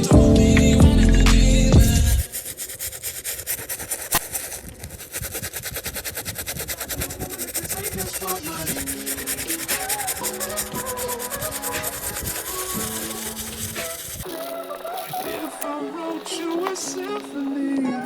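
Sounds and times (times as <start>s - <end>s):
brush scrubbing a sneaker: 1.8s - 18.0s.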